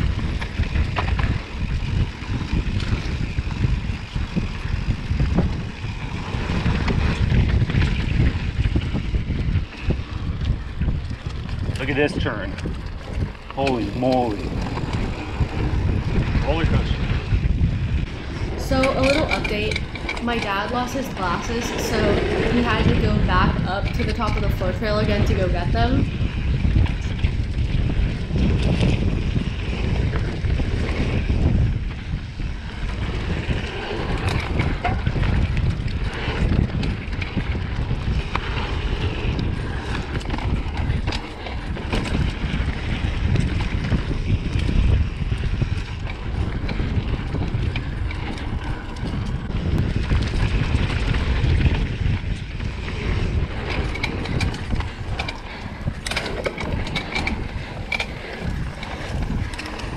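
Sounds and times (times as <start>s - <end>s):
bike chain and frame rattling: 0.0s - 59.9s
bike tyres rolling over dirt: 0.0s - 59.9s
wind on microphone: 0.0s - 59.9s.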